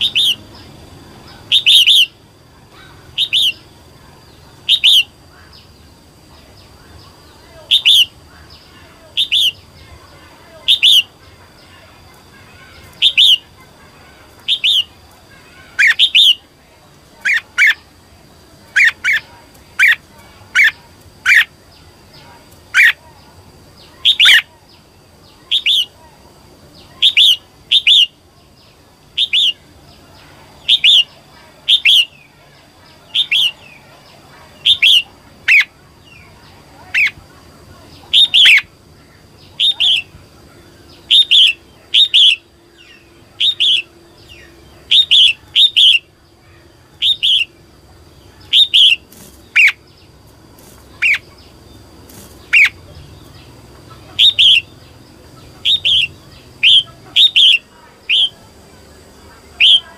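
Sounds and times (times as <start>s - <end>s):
bulbul chirping calls: 0.0s - 16.5s, 17.2s - 18.0s, 18.6s - 26.0s, 26.8s - 59.9s.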